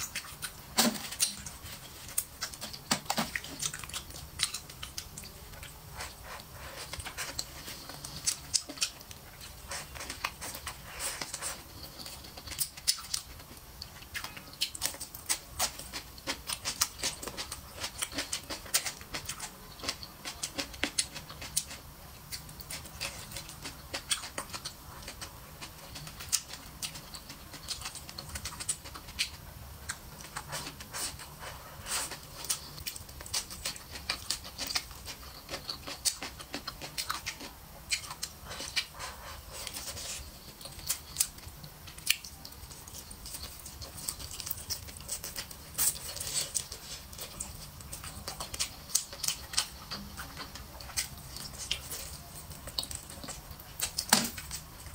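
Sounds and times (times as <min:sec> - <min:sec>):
chewing and lip-smacking: 0:00.0 - 0:54.9.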